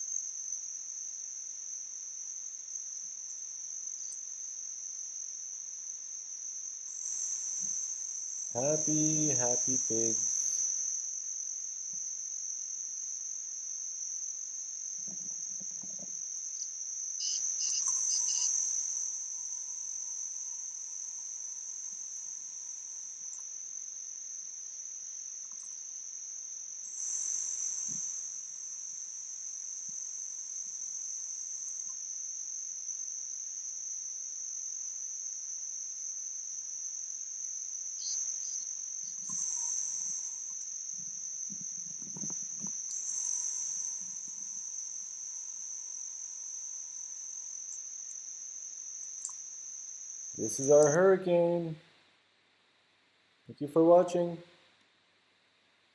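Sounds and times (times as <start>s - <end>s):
crickets chirring: 0.0s - 51.9s, 53.6s - 54.4s.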